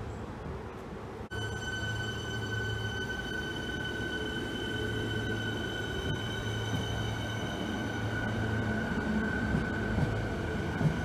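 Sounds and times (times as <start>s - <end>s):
train equipment low hum: 0.0s - 11.0s
high-pitched whine: 1.3s - 11.0s.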